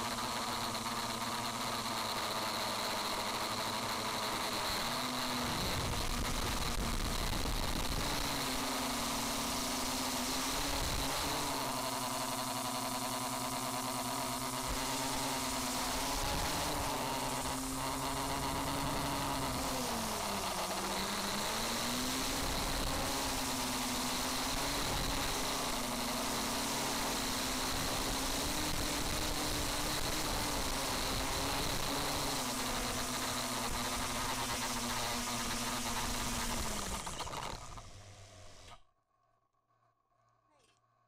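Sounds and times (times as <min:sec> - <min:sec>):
drone propellers buzzing: 0:00.0 - 0:38.8.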